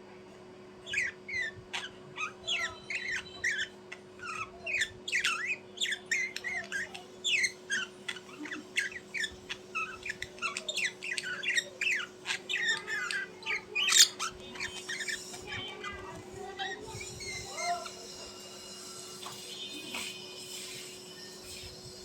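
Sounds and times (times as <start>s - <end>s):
birds chirping and squawking: 0.8s - 22.0s.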